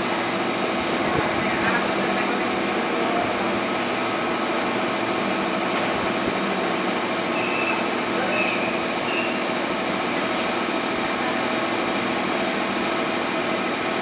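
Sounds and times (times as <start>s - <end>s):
electric train humming: 0.0s - 14.0s.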